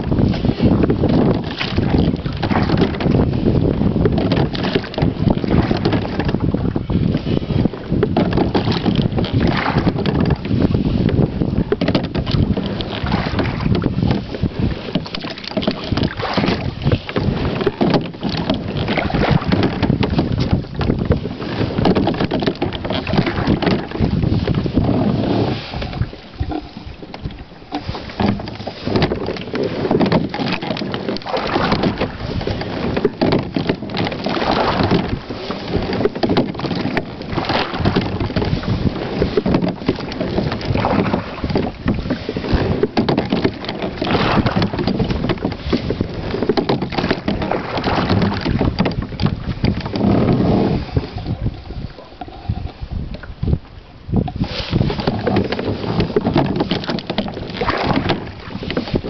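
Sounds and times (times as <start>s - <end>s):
oars knocking in oarlocks: 0.0s - 59.0s
water swishing and splashing: 0.0s - 59.0s
wind buffeting microphone: 0.0s - 59.0s.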